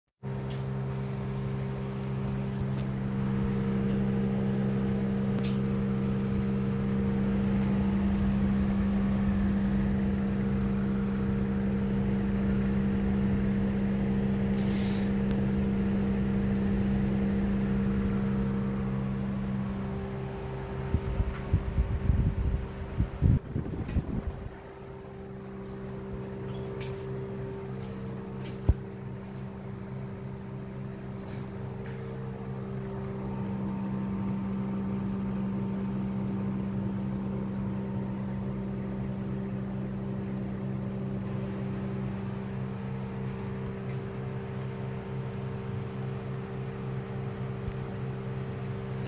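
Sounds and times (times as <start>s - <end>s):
air conditioner unit droning: 0.2s - 49.0s
low buffeting bursts: 0.9s - 49.0s.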